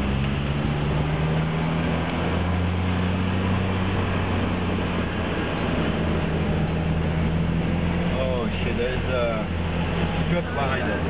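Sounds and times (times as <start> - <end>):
car engine hum: 0.0 - 11.0
tyres rushing on wet asphalt: 0.0 - 11.0.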